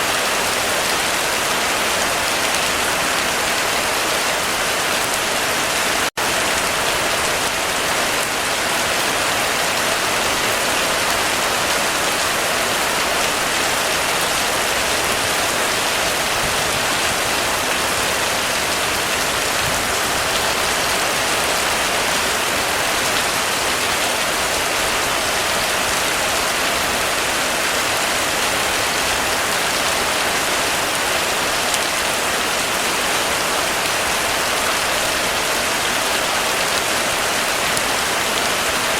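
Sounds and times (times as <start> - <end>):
heavy rain drumming on a roof: 0.0 - 38.9.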